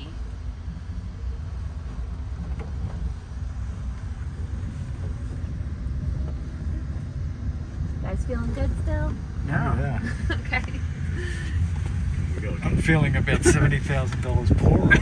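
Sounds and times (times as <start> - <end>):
road and tyre noise: 0.0 - 15.0
wind: 0.0 - 15.0.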